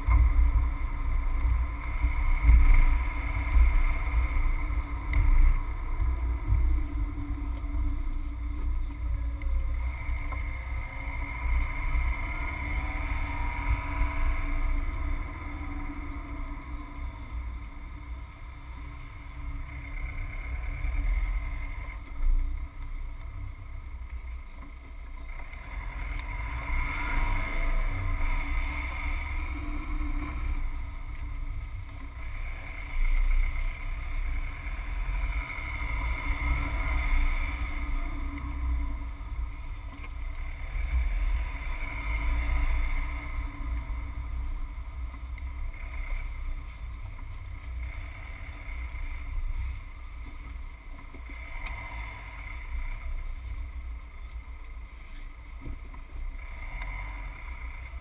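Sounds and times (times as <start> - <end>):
car engine low rumble: 0.0 - 58.0
tyres on road: 0.0 - 58.0.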